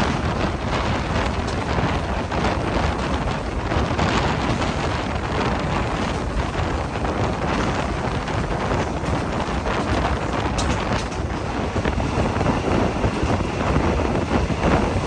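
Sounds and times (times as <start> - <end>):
passenger train rushing: 0.0 - 15.0.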